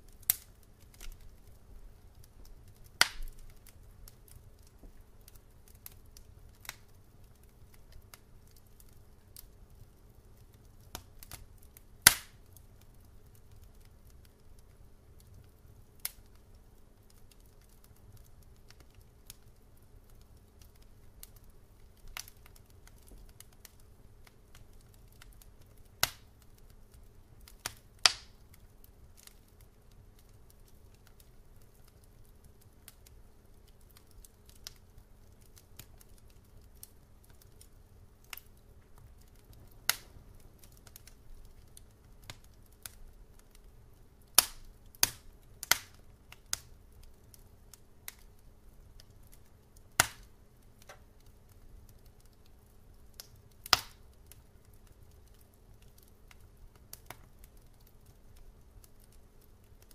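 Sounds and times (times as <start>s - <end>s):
faint low hum: 0.0s - 59.9s
wood fire crackling and popping: 0.0s - 59.9s.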